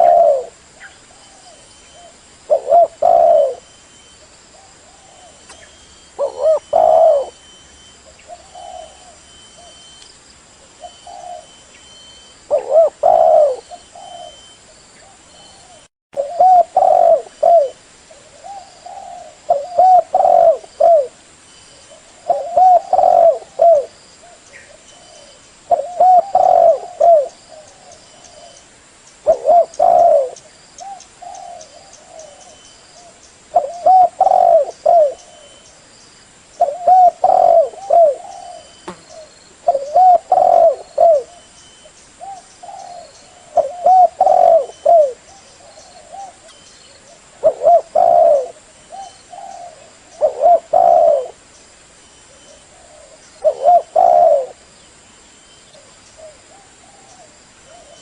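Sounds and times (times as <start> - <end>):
dove cooing: 0.0 - 3.7, 4.6 - 9.8, 10.6 - 21.2, 21.9 - 28.6, 29.2 - 35.6, 36.6 - 51.4, 52.3 - 54.6, 55.7 - 58.0.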